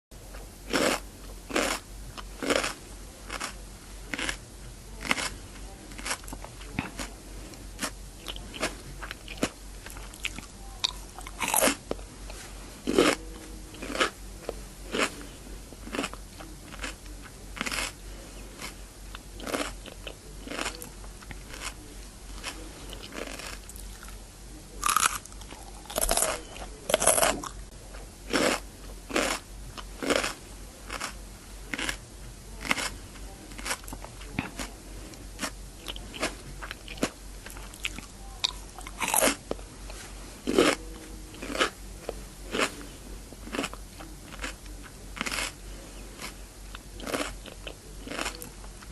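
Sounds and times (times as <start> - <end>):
crunching and chewing cucumber: 0.3 - 48.9.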